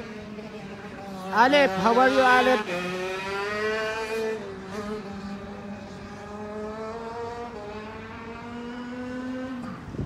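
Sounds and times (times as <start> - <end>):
kart engine running: 0.0 - 10.0.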